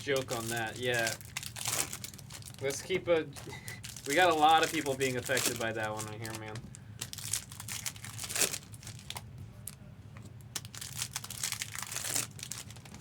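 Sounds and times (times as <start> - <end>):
card pack wrappers crinkling: 0.0 - 9.8, 10.5 - 13.0.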